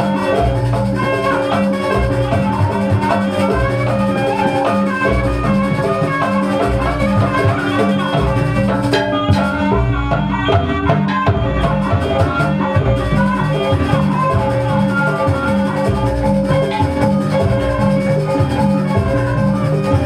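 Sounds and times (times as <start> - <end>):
drums: 0.0 - 20.0
struck metal instruments: 0.0 - 20.0.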